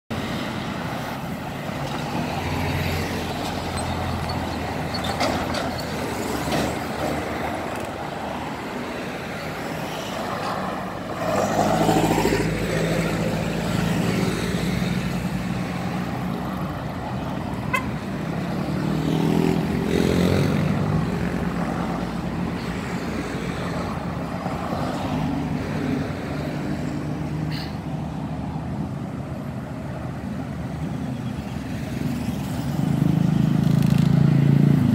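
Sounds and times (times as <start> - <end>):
motor vehicles passing: 0.1 - 34.9.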